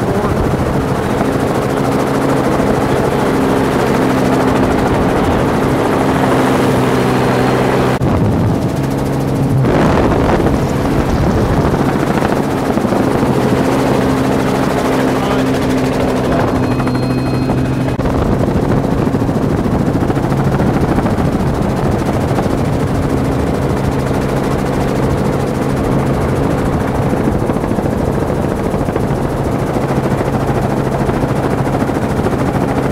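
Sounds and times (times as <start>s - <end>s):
helicopter rotor and engine drone: 0.0s - 32.9s.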